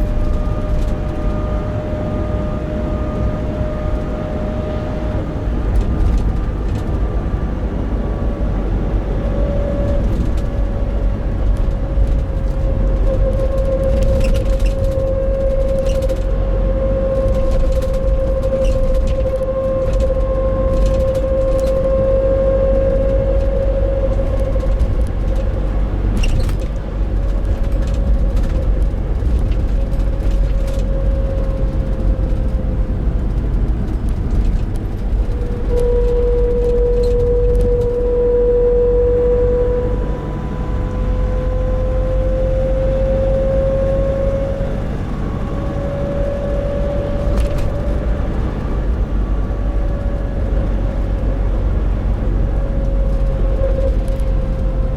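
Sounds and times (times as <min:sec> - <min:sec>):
diesel engine and road rumble: 0:00.0 - 0:54.9
humming drone from drivetrain: 0:00.0 - 0:54.9.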